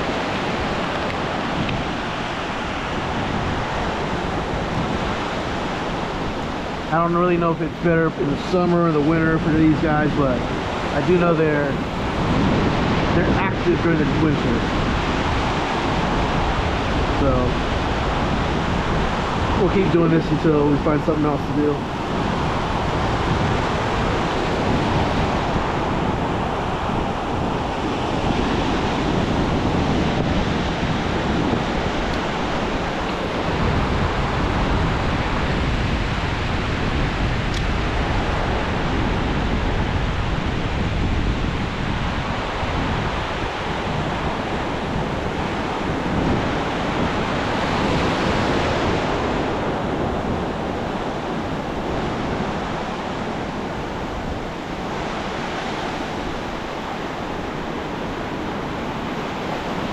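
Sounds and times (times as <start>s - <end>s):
ocean surf washing onto beach: 0.0s - 59.9s
wind rumbling on microphone: 0.0s - 59.9s.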